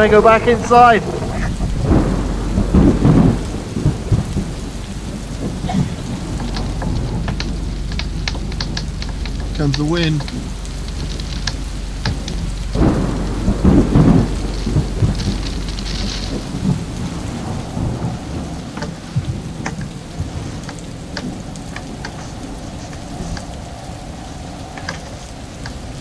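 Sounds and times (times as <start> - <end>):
heavy rain: 0.0 - 26.0
raindrops hitting: 0.0 - 26.0
wind gusting on microphone: 0.0 - 26.0.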